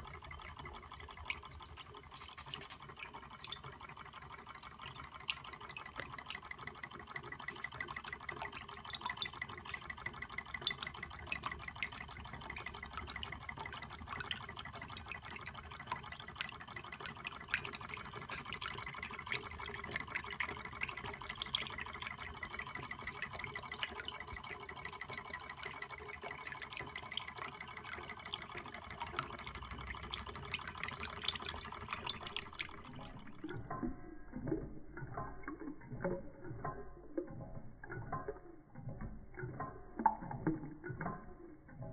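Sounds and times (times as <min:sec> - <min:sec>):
engine mechanism ticking: 0:00.0 - 0:41.9
water being pumped: 0:00.0 - 0:41.9.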